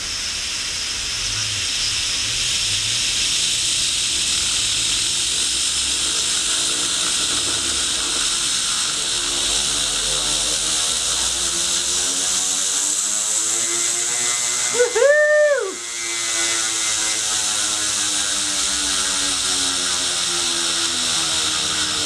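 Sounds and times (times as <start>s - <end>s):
turbine whine rising in pitch: 0.0s - 22.0s.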